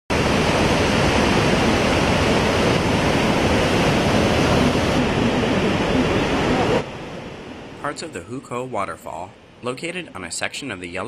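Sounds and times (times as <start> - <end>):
waterfall rushing: 0.1 - 10.8.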